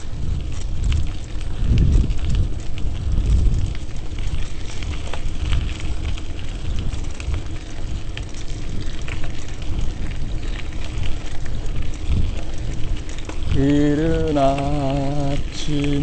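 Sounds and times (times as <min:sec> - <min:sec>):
crackling hiss: 0:00.0 - 0:16.0
wind buffeting microphone: 0:00.0 - 0:16.0.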